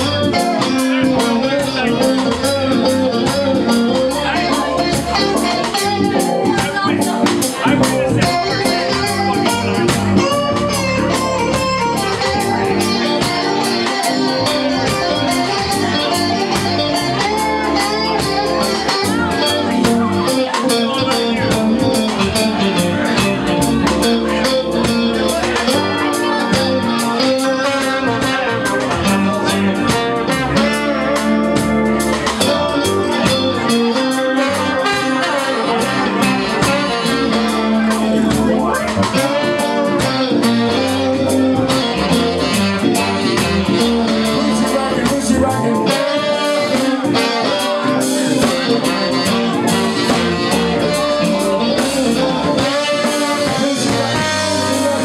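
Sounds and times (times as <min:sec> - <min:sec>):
drums: 0:00.0 - 0:55.0
electric guitars: 0:00.0 - 0:55.0
keyboard: 0:00.0 - 0:55.0
saxophone: 0:00.0 - 0:55.0
trombone: 0:00.0 - 0:55.0.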